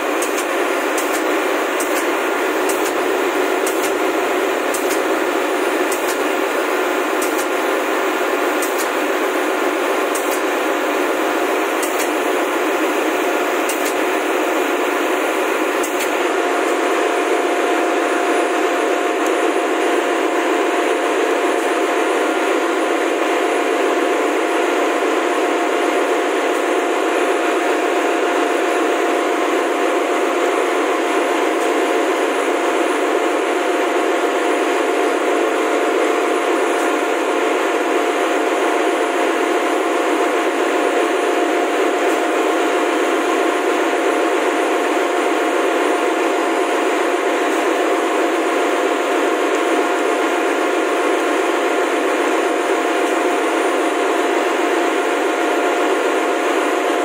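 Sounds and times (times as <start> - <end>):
engine room machinery din: 0.0 - 57.0.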